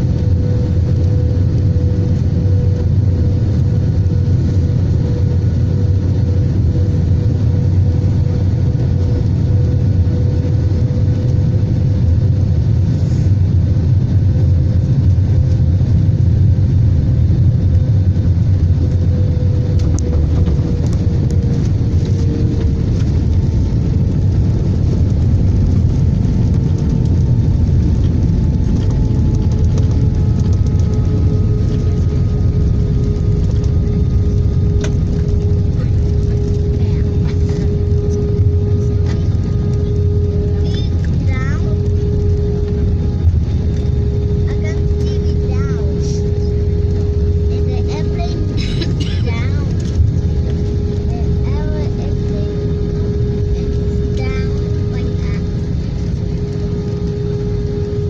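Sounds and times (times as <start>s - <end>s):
airliner low rumble: 0.0s - 58.0s
faint engine hum: 0.0s - 58.0s.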